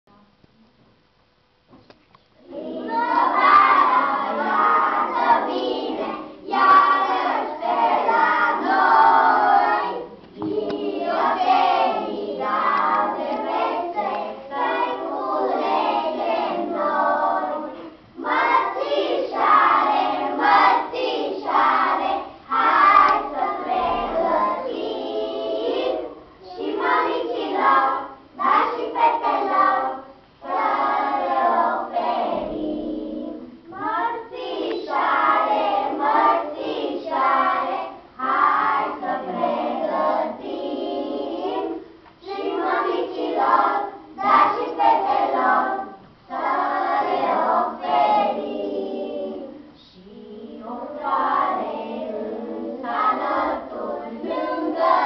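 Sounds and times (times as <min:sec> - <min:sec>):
young children singing in unison: 0:02.3 - 0:55.0.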